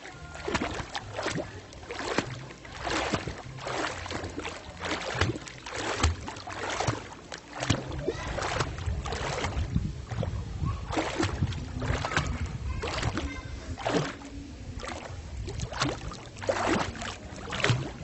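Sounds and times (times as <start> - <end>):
water splashing from swimming: 0.0 - 18.0.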